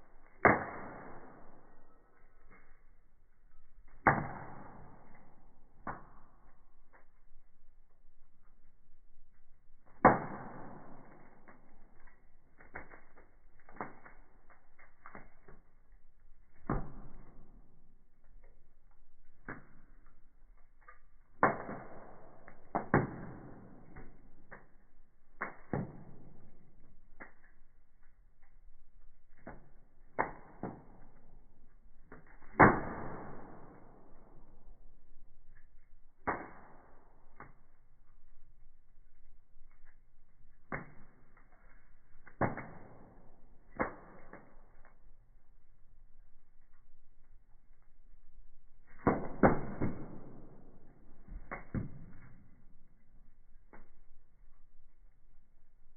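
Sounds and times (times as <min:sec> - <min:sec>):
firewood crackling and popping: 0:00.0 - 0:55.9.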